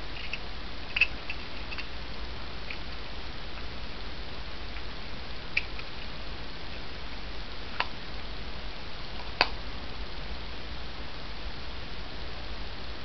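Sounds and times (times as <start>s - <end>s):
room hiss: 0.0s - 13.0s.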